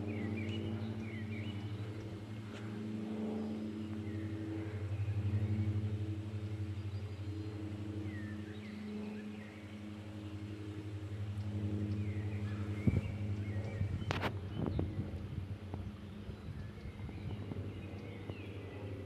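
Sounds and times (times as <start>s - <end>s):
aircraft engines droning: 0.0s - 19.0s
birds chirping: 0.0s - 19.0s.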